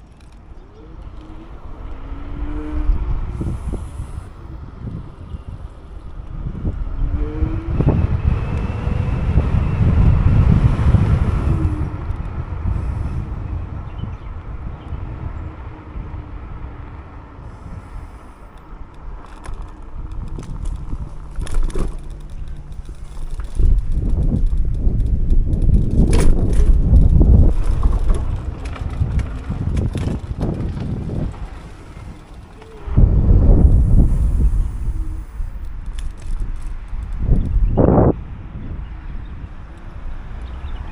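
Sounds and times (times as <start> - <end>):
road rumble: 0.0 - 40.9
scooter rattling over bumps: 0.0 - 40.9
wind rushing over microphone: 0.0 - 40.9.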